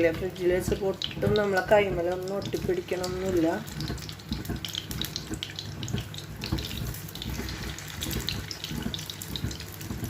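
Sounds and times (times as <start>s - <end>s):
patties sizzling in hot oil: 0.0s - 10.0s.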